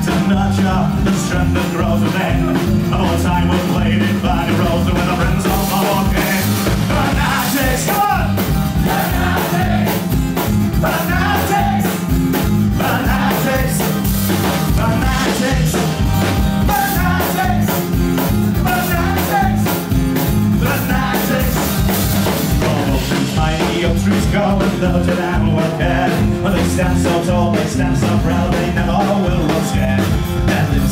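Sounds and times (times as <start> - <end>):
acoustic guitar: 0.0 - 30.9
drum kit beat: 0.0 - 30.9
electric bass: 0.0 - 30.9.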